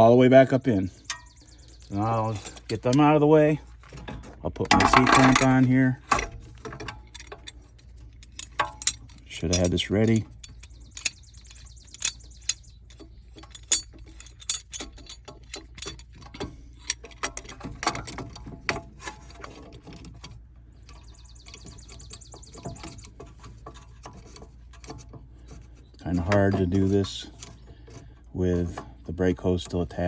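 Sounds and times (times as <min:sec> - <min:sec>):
hand tools clicking and knocking: 0:01.0 - 0:30.0.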